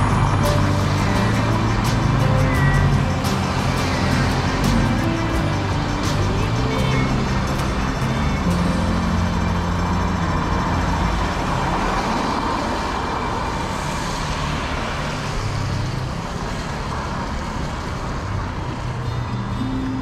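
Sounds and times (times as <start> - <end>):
traffic on wet road: 0.0 - 19.8
vehicle passing: 0.0 - 20.0.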